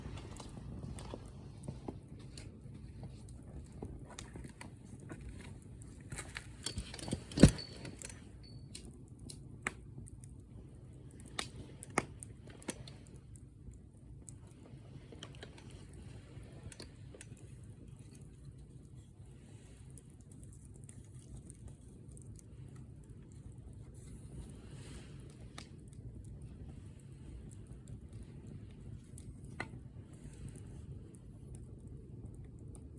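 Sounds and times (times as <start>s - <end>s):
low steady rumble: 0.0s - 32.9s
wood fire crackling and popping: 0.0s - 32.9s.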